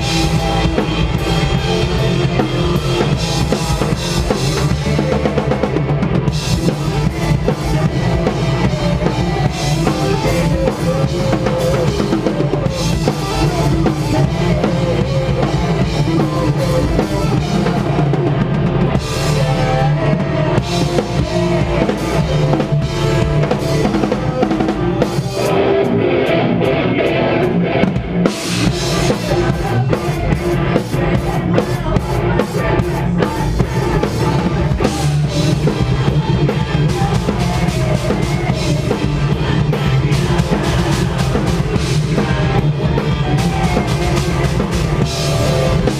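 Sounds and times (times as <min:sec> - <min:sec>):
drum kit pounding: 0:00.0 - 0:26.7, 0:27.4 - 0:45.9
heavy rock band playing live: 0:00.0 - 0:45.9.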